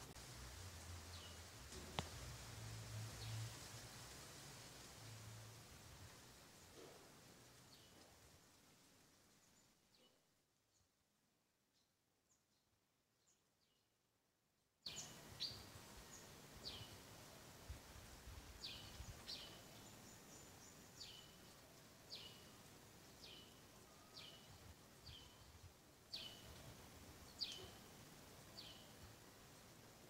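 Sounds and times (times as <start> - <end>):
faint outdoor background noise: 0.0 - 30.0.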